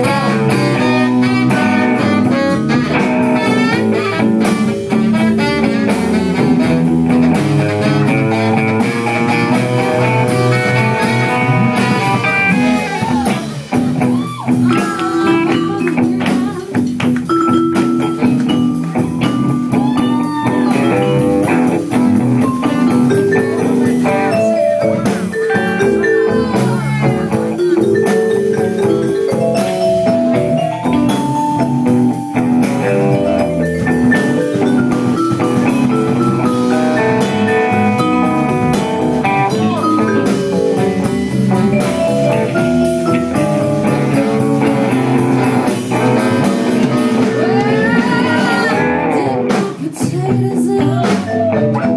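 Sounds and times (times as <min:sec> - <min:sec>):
lead guitar bending notes: 0:00.0 - 0:49.6
blues band playing live: 0:00.0 - 0:51.9.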